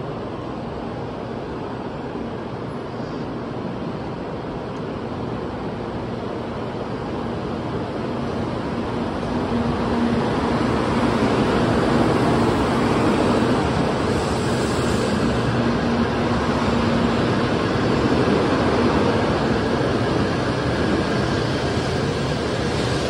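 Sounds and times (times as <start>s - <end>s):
train rush of wheels and air: 0.0s - 23.0s.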